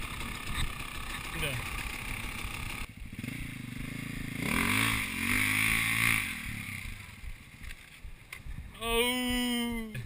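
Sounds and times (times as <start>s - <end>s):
motorcycle engine revving: 0.0s - 8.1s.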